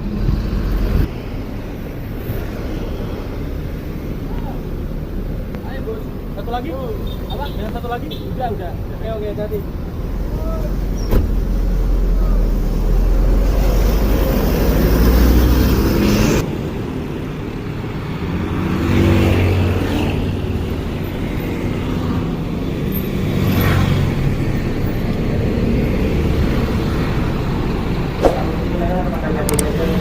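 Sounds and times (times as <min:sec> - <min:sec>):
bus engines running: 0:00.0 - 0:30.0.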